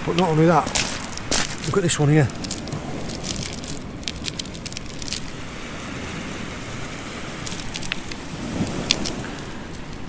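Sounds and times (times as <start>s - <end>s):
wet pebbles clicking together: 0.0s - 5.4s, 7.3s - 10.0s.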